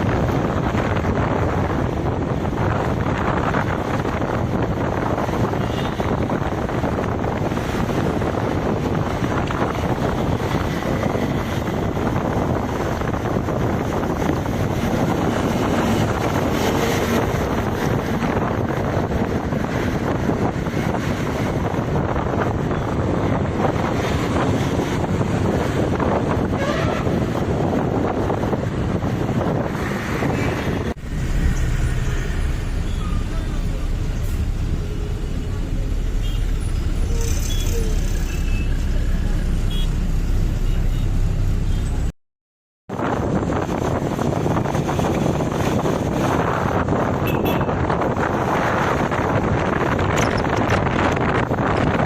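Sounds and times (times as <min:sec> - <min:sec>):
wind buffeting microphone: 0:00.0 - 0:38.0, 0:42.9 - 0:52.0
vehicle rumble: 0:00.0 - 0:42.1, 0:42.9 - 0:52.0.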